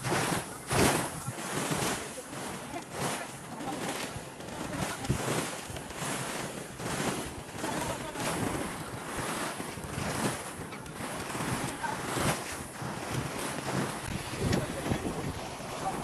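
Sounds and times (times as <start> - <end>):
small waves washing onto beach: 0.0 - 16.0
wind gusting over microphone: 0.0 - 16.0.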